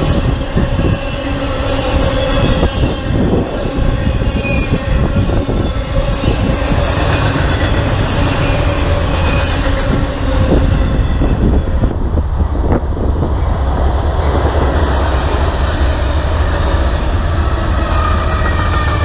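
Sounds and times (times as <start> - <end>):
freight train cars rumbling: 0.0 - 19.0
wheels squealing on rail: 0.0 - 19.0.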